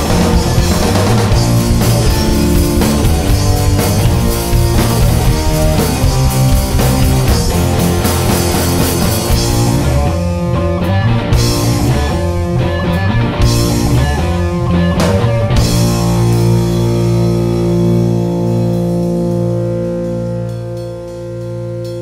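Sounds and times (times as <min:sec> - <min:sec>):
rock band playing loudly: 0:00.0 - 0:22.0.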